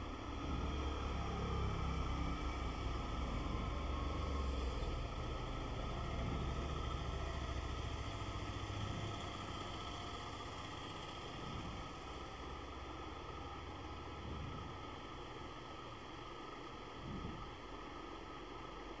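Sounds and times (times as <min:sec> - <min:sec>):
low motor rumble: 0:00.0 - 0:19.0.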